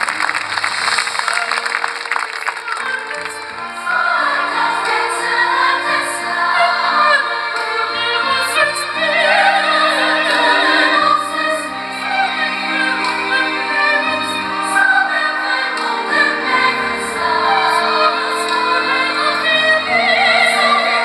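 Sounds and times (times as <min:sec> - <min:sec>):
musical accompaniment: 0:00.0 - 0:21.0
choir singing: 0:02.7 - 0:21.0.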